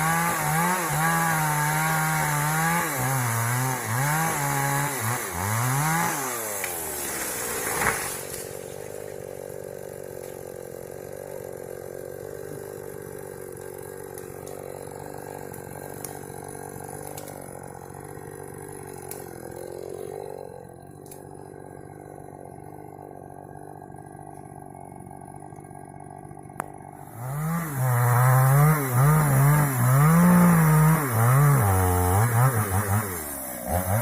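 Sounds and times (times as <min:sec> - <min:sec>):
chainsaw revving and idling: 0:00.0 - 0:34.0.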